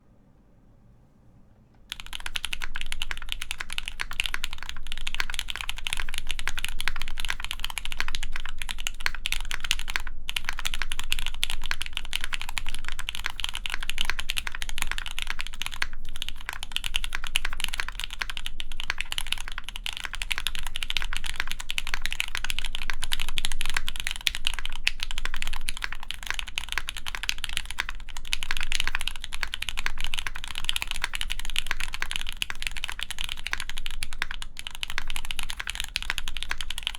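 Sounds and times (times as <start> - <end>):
fast mechanical keyboard typing: 1.9 - 36.9.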